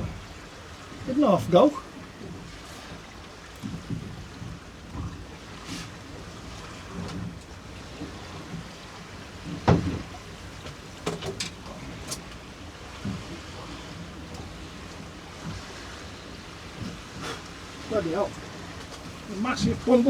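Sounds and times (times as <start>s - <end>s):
sea washing against boat hull: 0.0s - 20.0s
wind: 0.0s - 20.0s.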